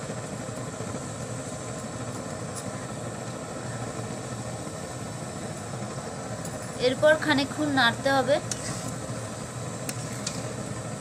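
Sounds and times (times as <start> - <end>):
low rumbling roar with hiss: 0.0 - 11.0.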